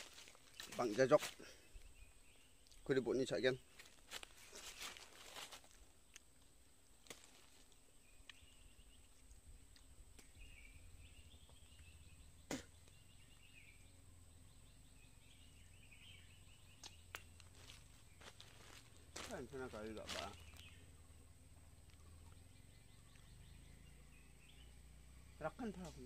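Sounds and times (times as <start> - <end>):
distant chirping calls: 0.0 - 6.4, 7.3 - 26.0.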